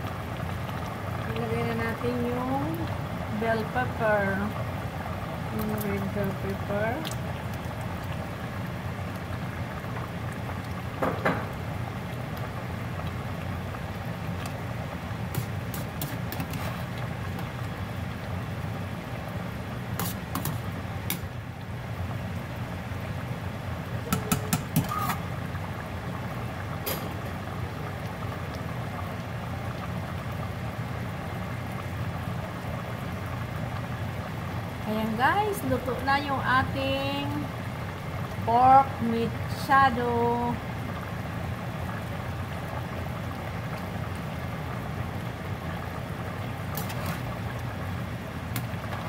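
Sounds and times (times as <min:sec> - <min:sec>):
stew simmering in pot: 0:00.0 - 0:49.0.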